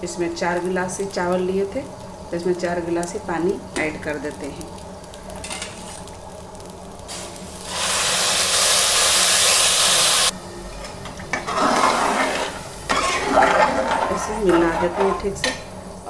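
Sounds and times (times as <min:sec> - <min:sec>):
water hissing and sizzling: 0:00.0 - 0:10.4, 0:11.3 - 0:16.0.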